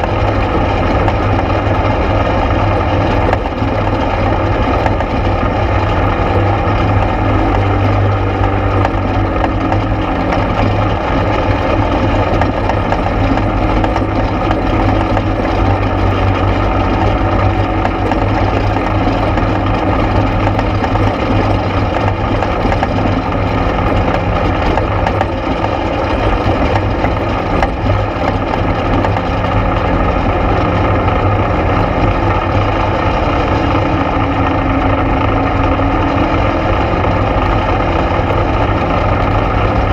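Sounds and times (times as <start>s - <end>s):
quad bike engine droning: 0.0s - 39.9s.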